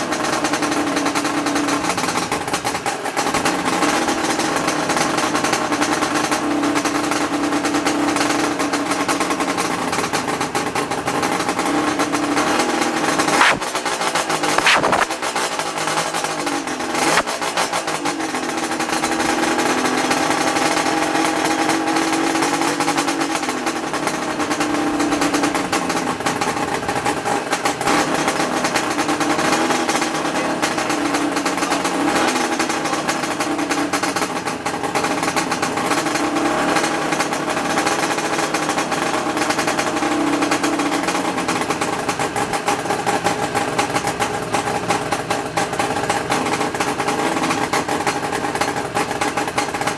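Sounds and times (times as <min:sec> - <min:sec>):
two-stroke motorcycle engine running: 0:00.0 - 0:49.9.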